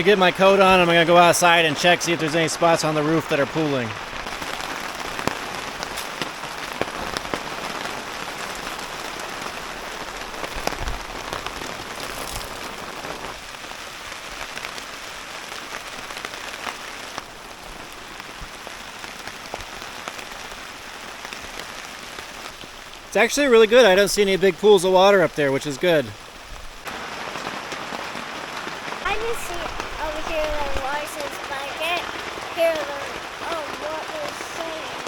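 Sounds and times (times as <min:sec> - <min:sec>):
heavy rain falling: 0:00.0 - 0:35.0
raindrops ticking on tarps: 0:00.0 - 0:35.0.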